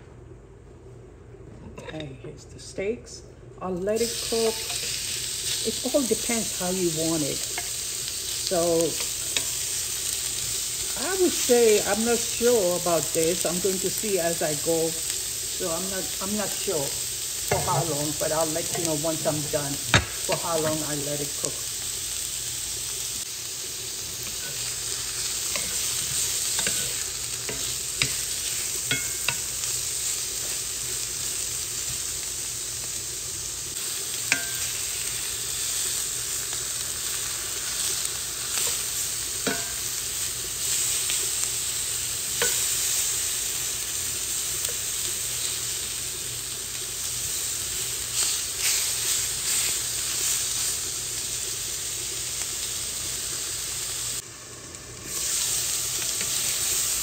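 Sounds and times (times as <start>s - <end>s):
steak sizzling in a pan: 4.0s - 57.0s.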